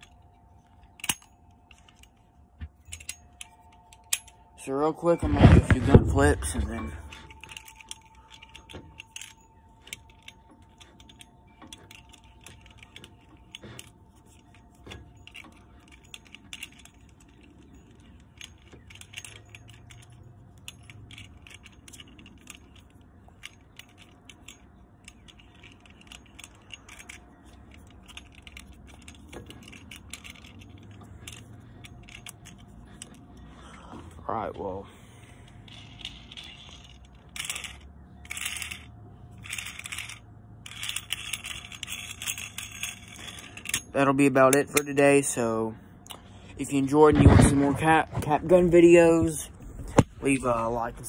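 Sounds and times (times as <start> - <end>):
toy gun clicking and rattling: 0.0 - 2.3, 5.4 - 33.5, 35.4 - 46.2.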